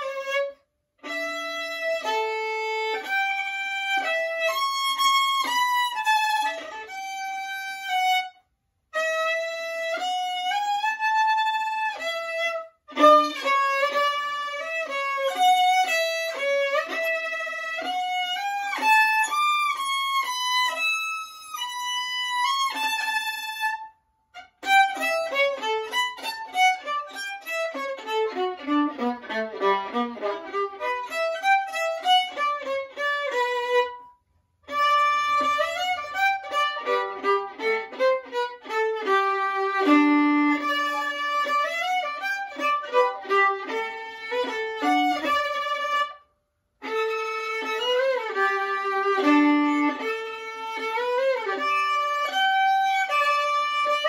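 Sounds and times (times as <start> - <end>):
solo violin playing: 0.0 - 54.0.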